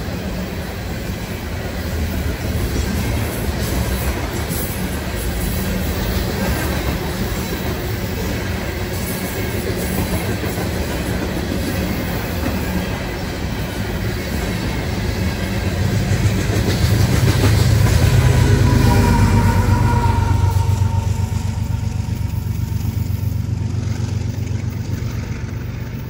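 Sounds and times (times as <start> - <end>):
locomotive diesel engine: 0.0 - 26.0
train wheels rumbling over rails: 0.0 - 26.0.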